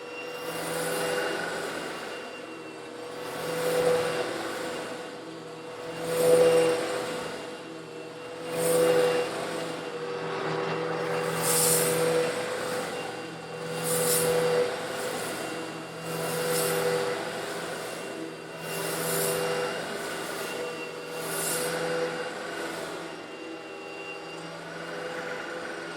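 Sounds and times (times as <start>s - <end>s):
vacuum cleaner motor: 0.0s - 25.9s.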